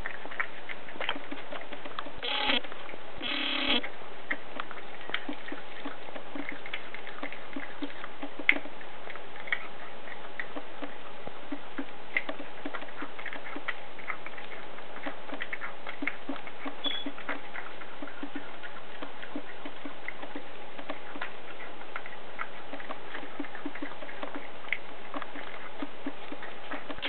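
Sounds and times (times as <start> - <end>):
cat chewing bone: 0.0 - 27.0.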